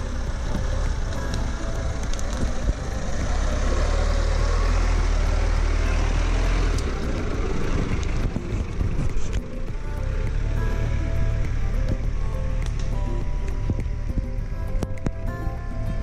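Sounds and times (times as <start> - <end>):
diesel engine rumbling at low revs: 0.0 - 16.0.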